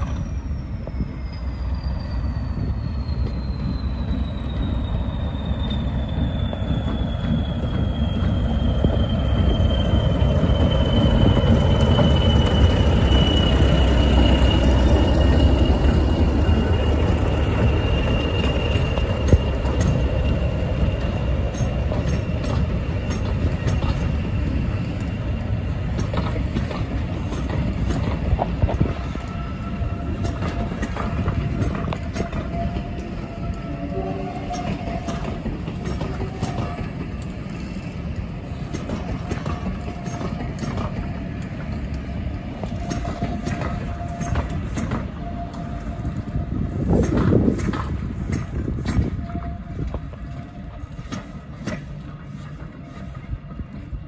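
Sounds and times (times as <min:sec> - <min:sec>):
high steady whistle: 0:00.0 - 0:26.1, 0:27.3 - 0:37.0, 0:38.6 - 0:47.1
diesel locomotive engine: 0:00.0 - 0:54.0
passenger coaches rumbling past: 0:00.0 - 0:54.0
wheels clicking over rail joints: 0:09.9 - 0:54.0.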